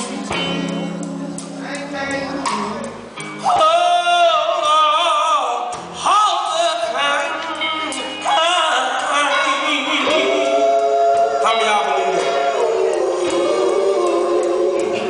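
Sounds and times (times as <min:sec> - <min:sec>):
musical backing: 0:00.0 - 0:15.0
man singing gospel with vibrato: 0:01.6 - 0:15.0.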